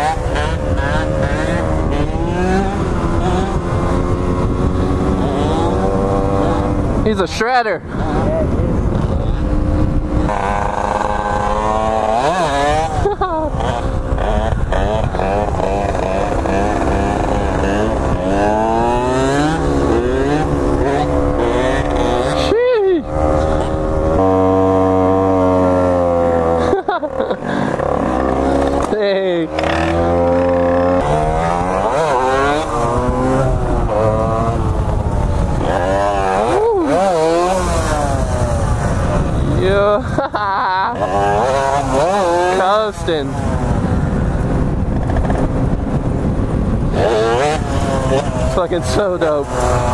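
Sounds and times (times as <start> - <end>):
two-stroke dirt bike revving: 0.0 - 49.9.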